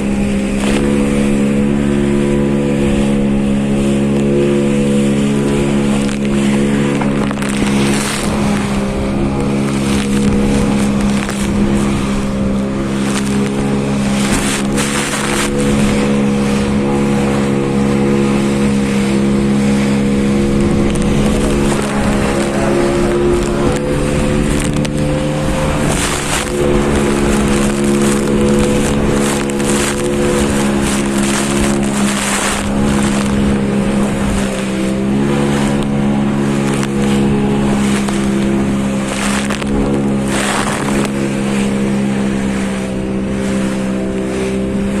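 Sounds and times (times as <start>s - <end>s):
broad rushing noise: 0.0s - 45.0s
engine running steadily: 0.0s - 45.0s.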